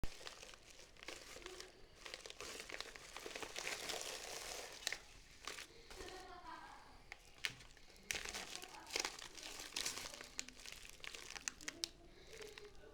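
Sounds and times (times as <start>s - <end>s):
packaging wrapping crinkling: 0.0s - 12.9s.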